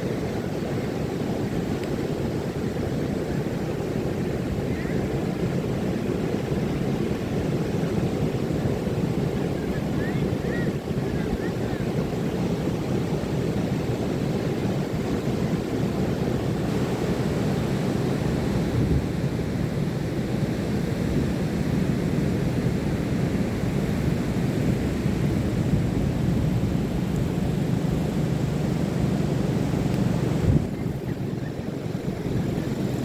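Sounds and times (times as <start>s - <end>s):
ocean surf rushing: 0.0s - 33.0s
wind on microphone: 0.0s - 33.0s.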